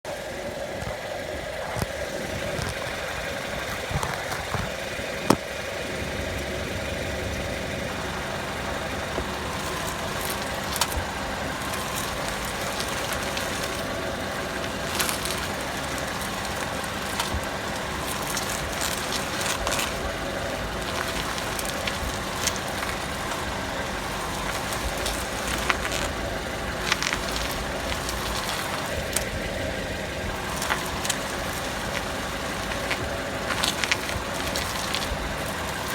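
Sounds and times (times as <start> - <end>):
car engine running: 0.0 - 35.9.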